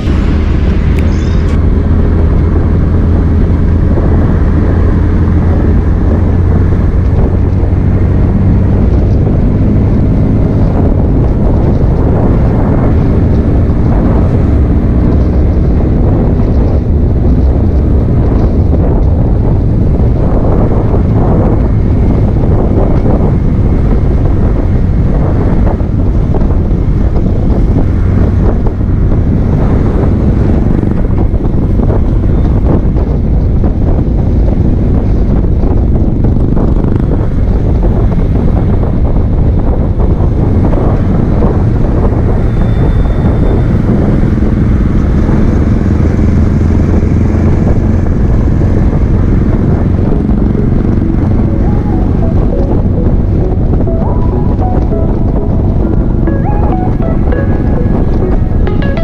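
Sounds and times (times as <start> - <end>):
engine running: 0.0 - 42.8, 43.8 - 59.0
wind buffeting microphone: 0.0 - 58.8.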